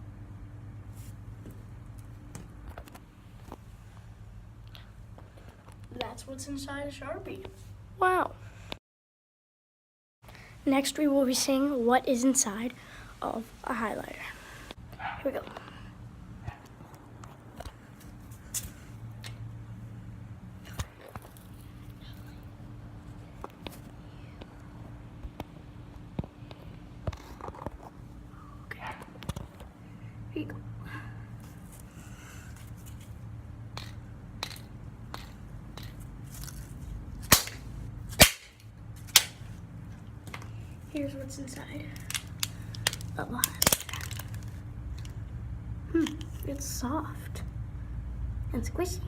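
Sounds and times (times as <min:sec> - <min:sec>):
low steady hum: 0:00.0 - 0:08.8, 0:10.2 - 0:49.0.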